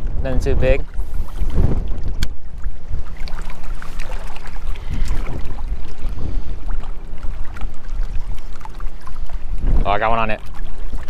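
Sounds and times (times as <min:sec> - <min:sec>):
water lapping at rocky shore: 0:00.0 - 0:11.0
wind rumbling on microphone: 0:00.0 - 0:11.0.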